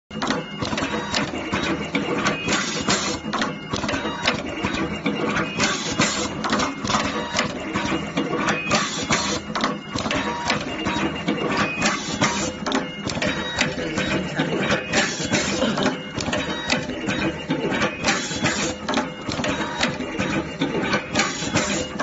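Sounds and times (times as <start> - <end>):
machine clicking and clacking: 0.1 - 22.0.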